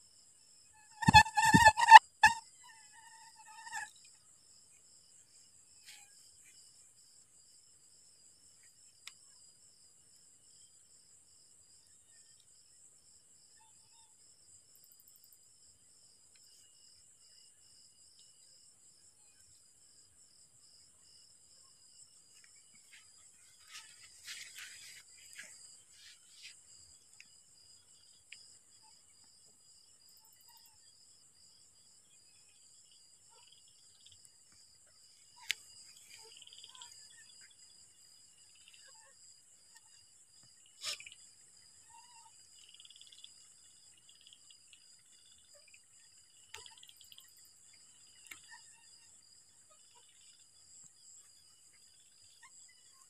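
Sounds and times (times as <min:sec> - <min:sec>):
crickets and insects trilling: 0:00.2 - 0:07.5, 0:13.1 - 0:53.0.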